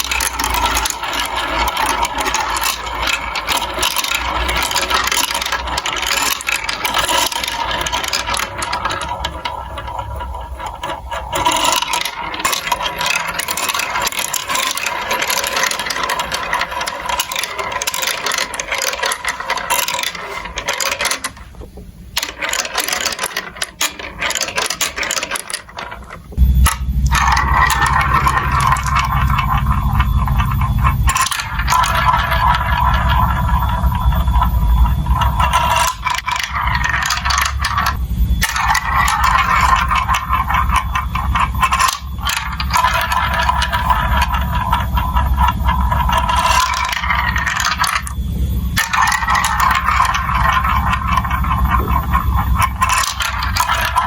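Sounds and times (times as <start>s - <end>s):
marbles clattering through plastic run: 0.0s - 54.0s.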